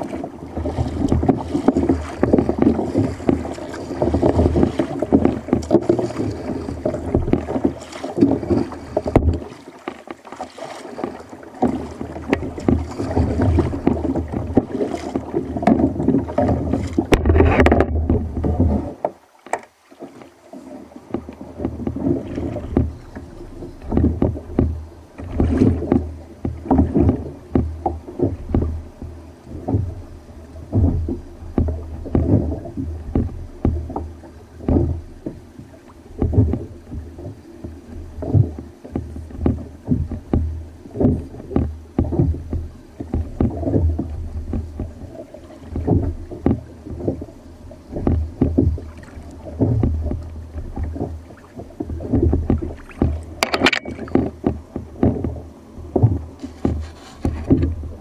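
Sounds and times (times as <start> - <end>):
paddle strokes: 0.0 - 58.0
water slapping against hull: 0.0 - 58.0.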